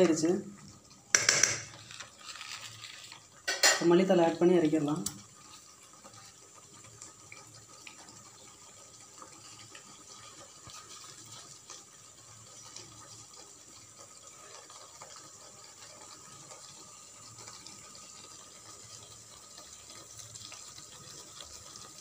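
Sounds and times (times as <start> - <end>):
curry simmering with pops: 0.0 - 22.0.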